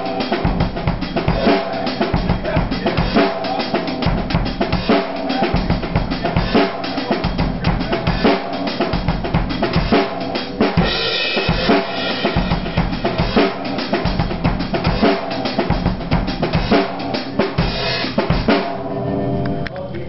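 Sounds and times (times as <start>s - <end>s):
drum kit shuffle groove: 0.0s - 18.9s.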